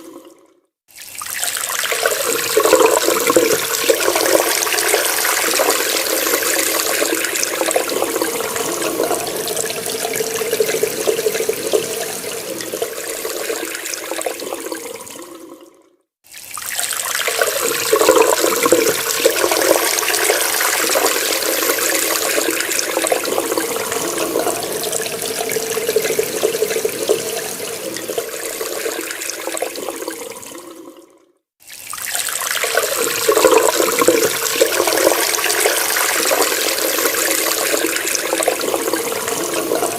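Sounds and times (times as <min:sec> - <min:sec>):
water running from a tap: 0:00.9 - 0:15.5, 0:16.3 - 0:30.9, 0:31.6 - 0:39.9.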